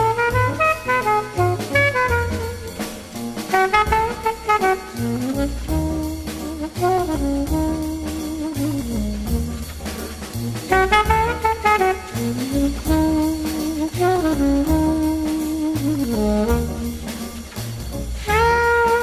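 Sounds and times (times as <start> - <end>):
jazz music with brass: 0.0 - 19.0.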